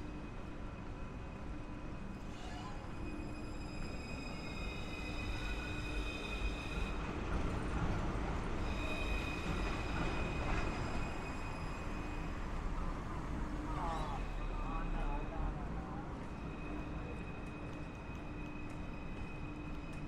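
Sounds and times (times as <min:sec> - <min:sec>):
tram whine: 0:00.0 - 0:20.0.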